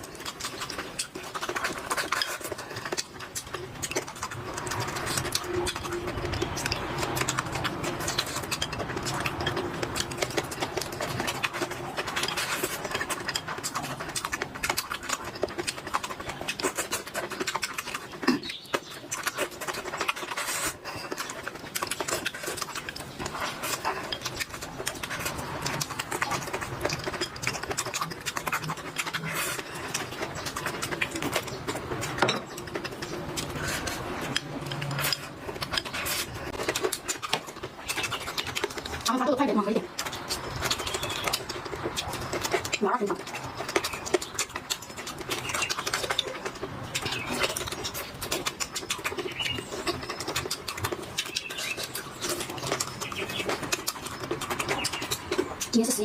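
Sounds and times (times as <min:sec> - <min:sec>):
chewing and mouth noises: 0:00.0 - 0:56.0.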